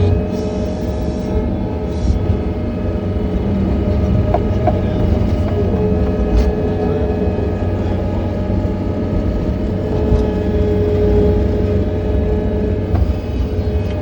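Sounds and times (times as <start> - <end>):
skid steer engine rumble: 0.0 - 14.0
steady machine whine: 0.0 - 14.0.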